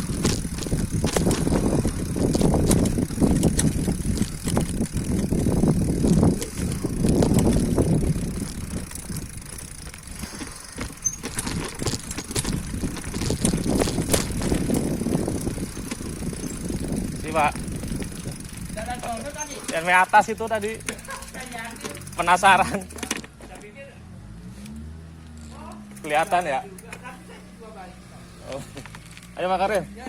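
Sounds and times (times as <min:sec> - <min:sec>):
bicycle riding over rough road: 0:00.0 - 0:23.8, 0:24.7 - 0:29.9
bicycle rattling and clicking: 0:00.0 - 0:23.9, 0:24.6 - 0:30.0.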